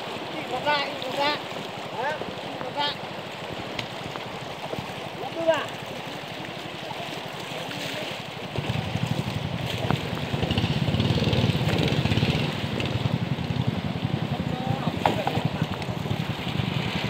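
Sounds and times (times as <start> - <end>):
rushing river water: 0.0 - 17.0
small boat engine running: 0.0 - 17.0.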